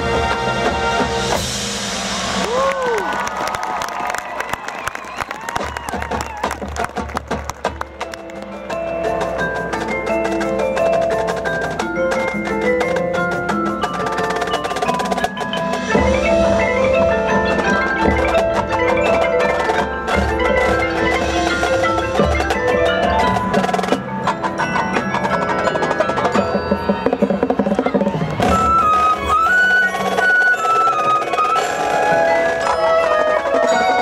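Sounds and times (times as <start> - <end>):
marching band playing: 0.0 - 34.0
mallet percussion runs: 5.7 - 34.0.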